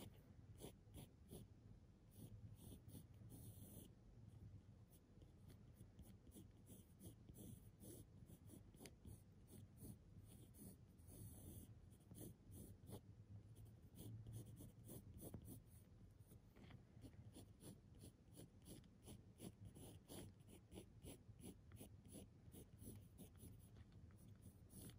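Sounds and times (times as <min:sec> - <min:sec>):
pencil scratching on paper: 0:00.0 - 0:01.5, 0:02.1 - 0:04.0, 0:04.9 - 0:24.9
low steady hum: 0:00.0 - 0:24.9.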